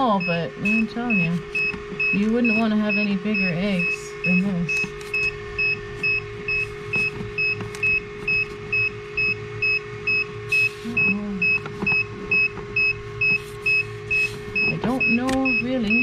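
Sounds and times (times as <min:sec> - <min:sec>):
incubator alarm beeping: 0:00.0 - 0:16.0.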